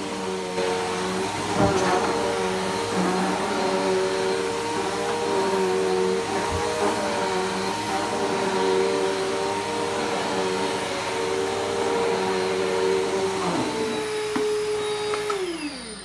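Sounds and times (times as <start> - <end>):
upright vacuum running: 0.0 - 16.0.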